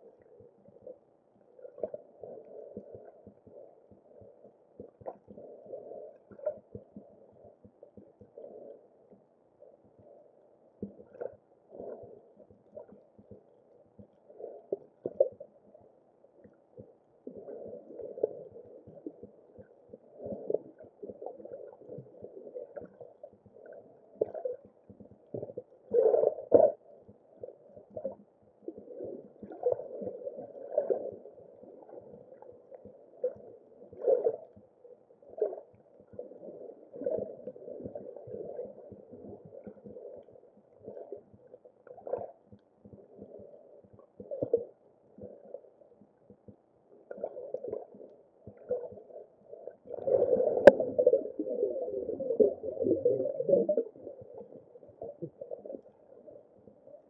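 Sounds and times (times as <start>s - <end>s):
underwater gurgling and sloshing: 0.0s - 57.0s.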